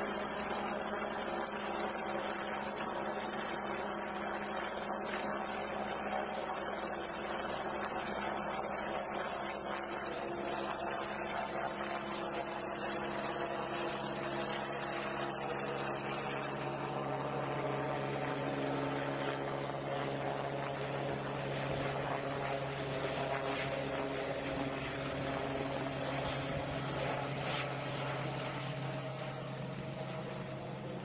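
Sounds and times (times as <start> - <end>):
helicopter drone: 0.0 - 31.0.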